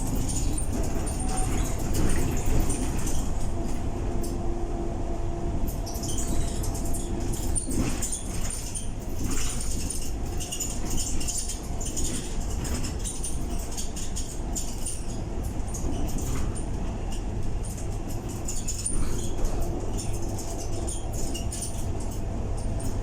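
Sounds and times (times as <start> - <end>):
bus body rattling and squeaking: 0.0 - 23.0
bus engine and road rumble: 0.0 - 23.0.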